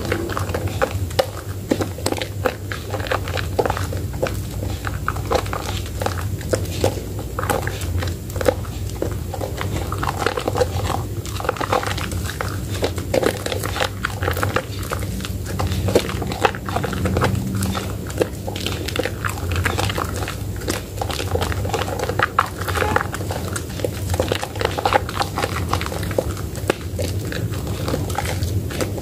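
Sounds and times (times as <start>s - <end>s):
soap lather squelching and popping: 0.0s - 29.0s.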